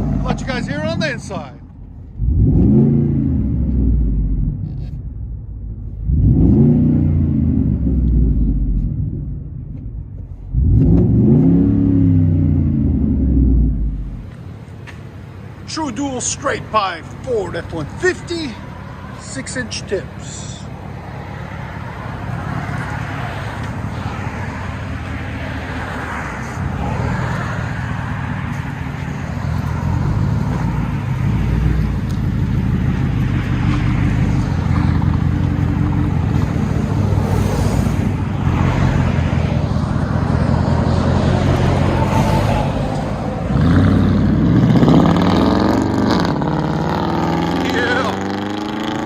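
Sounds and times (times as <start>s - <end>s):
truck engine revving: 0.0s - 5.4s, 6.0s - 9.6s, 10.5s - 14.2s, 15.7s - 49.0s.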